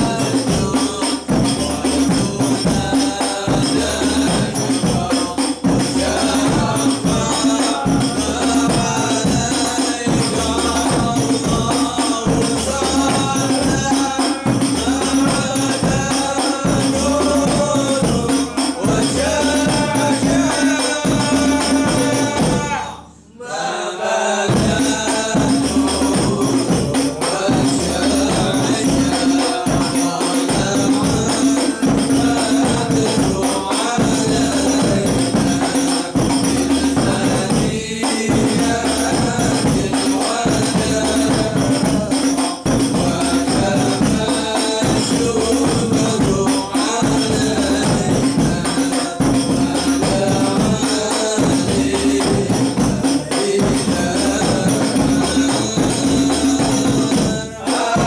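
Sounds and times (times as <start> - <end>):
frame drums beating: 0.0 - 23.0, 24.2 - 58.0
man singing into a microphone: 0.0 - 58.0.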